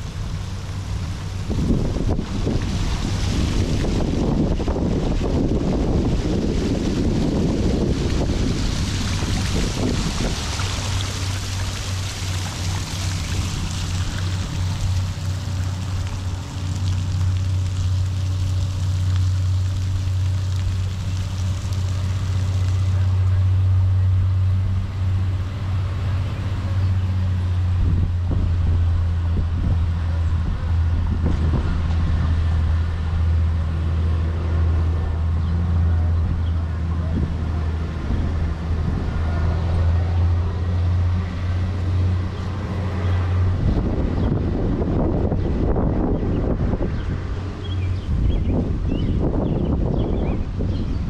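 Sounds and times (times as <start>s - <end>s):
fountain water splashing: 0.0s - 51.0s
steady low rumble: 0.0s - 51.0s.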